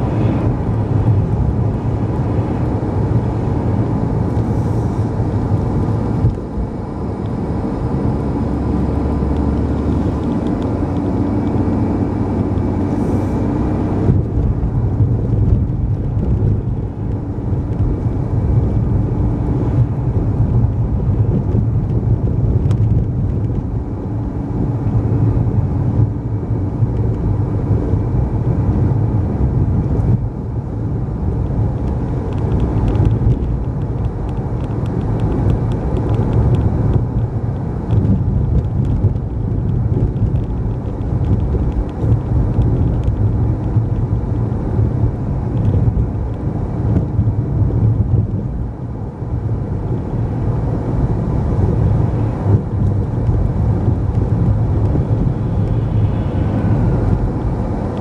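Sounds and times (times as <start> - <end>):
car engine hum: 0.0 - 58.0
tyres on wet road: 0.0 - 58.0.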